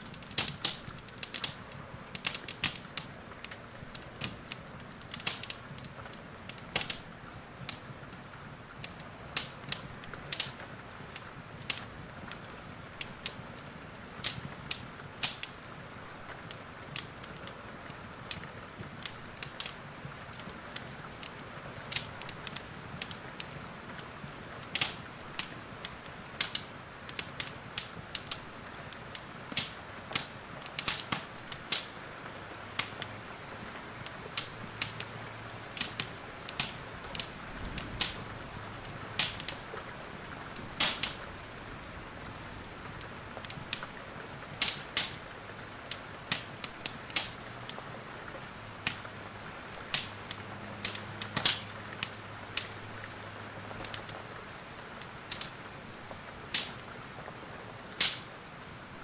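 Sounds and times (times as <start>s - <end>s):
rain hiss: 0.0s - 59.0s
wood fire crackling and popping: 0.0s - 59.0s.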